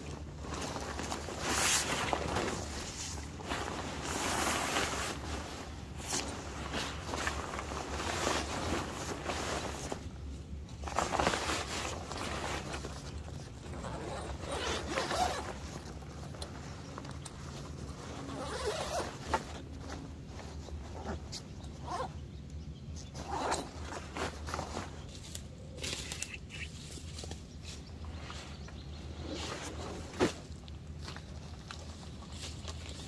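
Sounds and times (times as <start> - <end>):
rustling and scraping of gear: 0.0 - 33.0.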